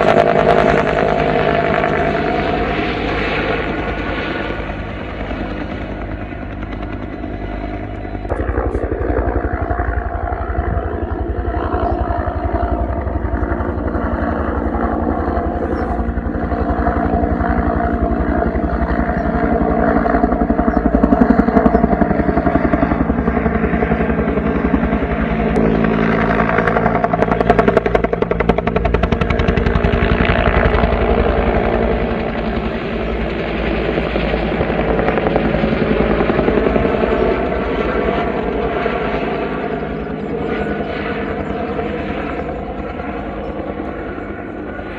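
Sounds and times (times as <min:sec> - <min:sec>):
helicopter engine drone: 0:00.0 - 0:44.9
helicopter rotor chopping: 0:00.0 - 0:44.9.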